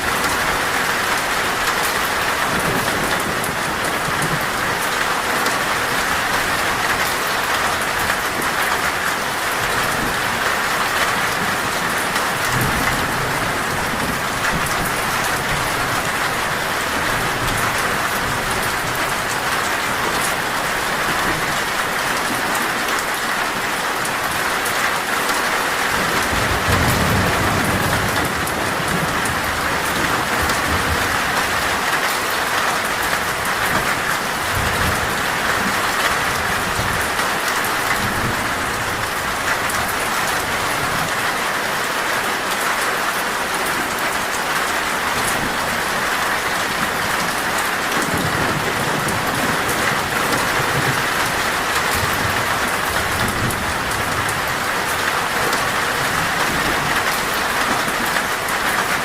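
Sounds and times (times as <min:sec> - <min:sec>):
low thunder rumbling: 0:00.0 - 0:22.4, 0:25.8 - 0:41.2, 0:45.2 - 0:58.6
heavy rain on a metal roof: 0:00.0 - 0:59.0.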